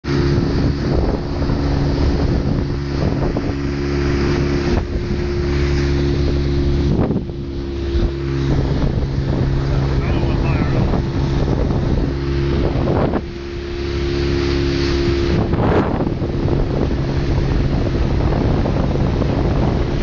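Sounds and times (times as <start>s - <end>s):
boat engine running: 0.0s - 20.0s
water noise: 0.0s - 20.0s
wind on microphone: 0.0s - 20.0s.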